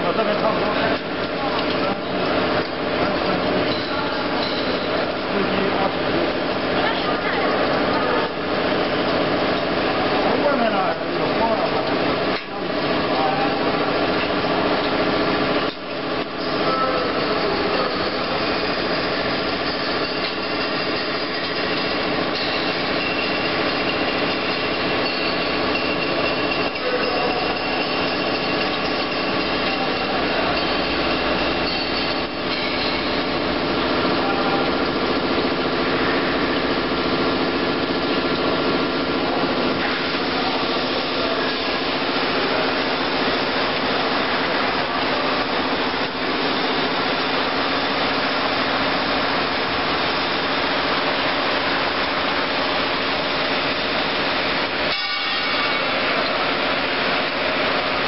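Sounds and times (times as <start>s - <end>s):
weaving machine running: 0.0s - 58.0s.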